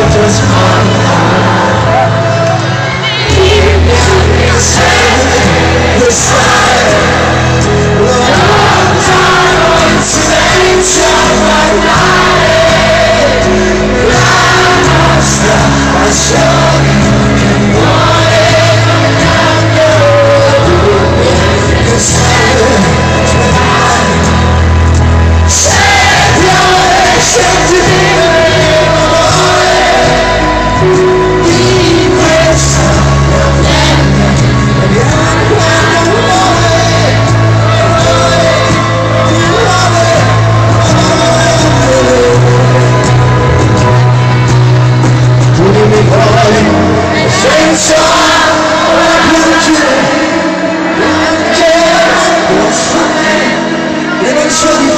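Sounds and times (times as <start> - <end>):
live pop-rock band playing: 0.0 - 54.9
person singing: 0.0 - 54.9.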